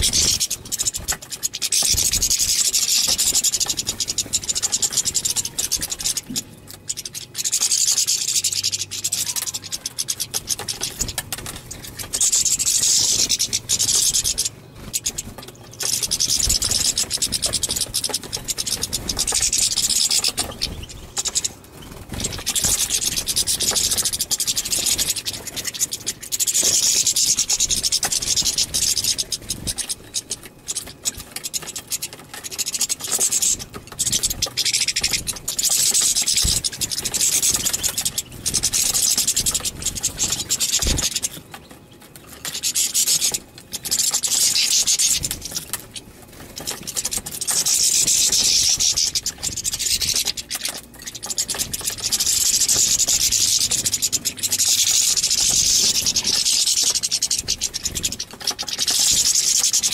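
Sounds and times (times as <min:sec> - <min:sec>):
finches twittering: 0:00.0 - 0:59.9.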